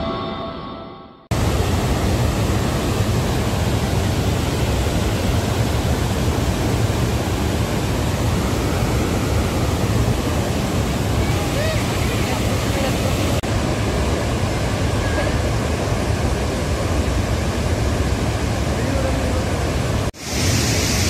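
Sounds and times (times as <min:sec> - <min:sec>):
large waterfall rushing: 0:01.3 - 0:21.0.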